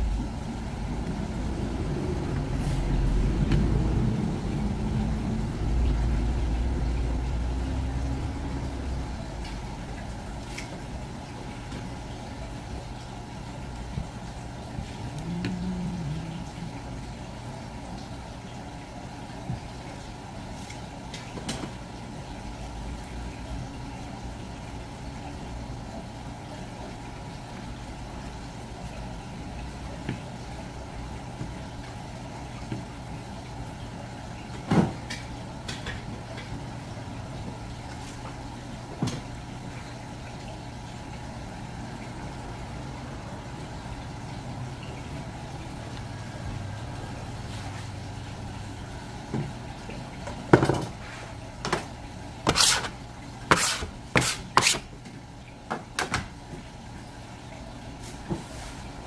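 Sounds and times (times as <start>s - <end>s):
low machine hum: 0.0s - 54.2s.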